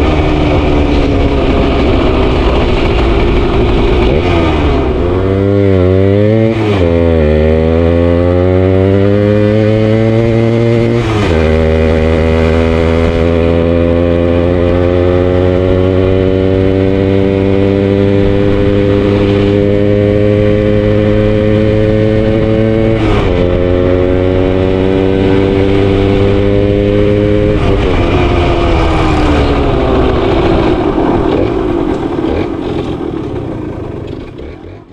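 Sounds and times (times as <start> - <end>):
two-stroke motorcycle engine: 0.0 - 34.9.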